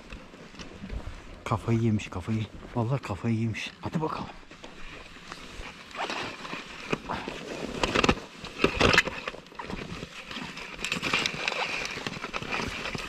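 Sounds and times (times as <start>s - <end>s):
snow crunching and scraping: 0.0s - 13.0s.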